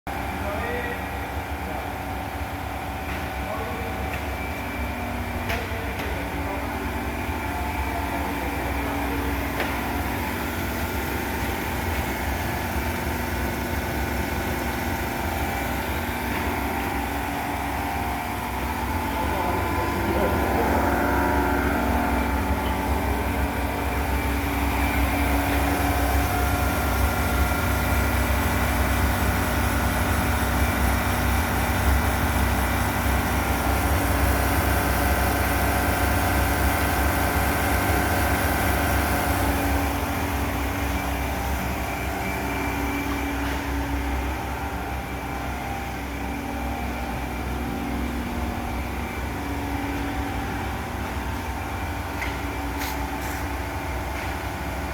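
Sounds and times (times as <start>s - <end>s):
ice machine humming: 3.5s - 54.9s.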